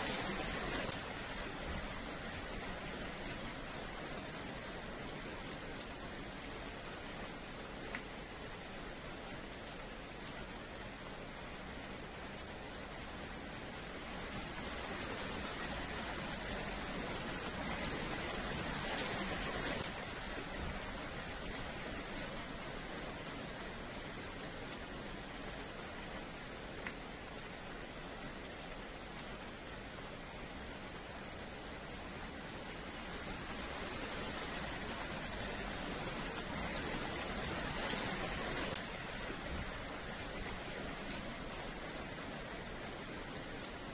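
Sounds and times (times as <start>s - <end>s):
rain falling on wet paving: 0.0s - 43.9s.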